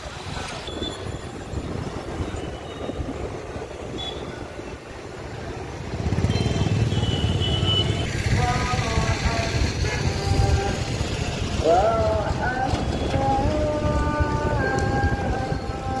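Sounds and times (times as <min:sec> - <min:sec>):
wind on microphone: 0:00.0 - 0:06.1, 0:08.0 - 0:16.0.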